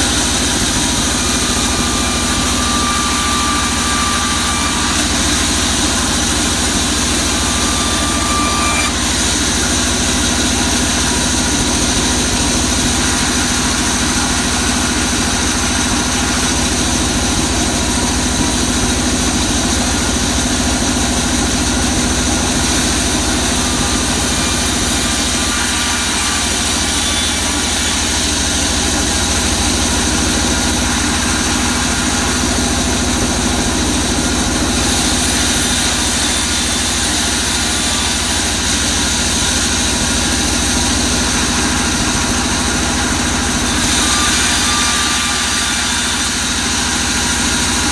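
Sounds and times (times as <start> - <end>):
band saw ripping wood: 0.0 - 16.5, 22.0 - 47.9.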